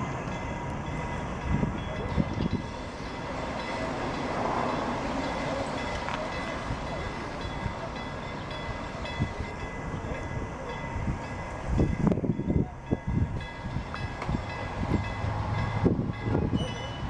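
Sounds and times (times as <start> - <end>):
steam train carriages rumbling on rails: 0.0 - 17.0
train knocks: 0.0 - 17.0.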